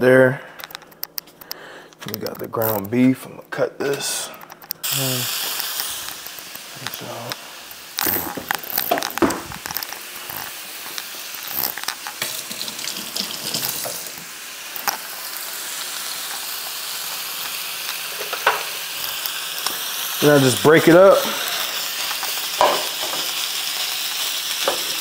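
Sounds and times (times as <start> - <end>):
meat sizzling in a pan: 4.8 - 25.0.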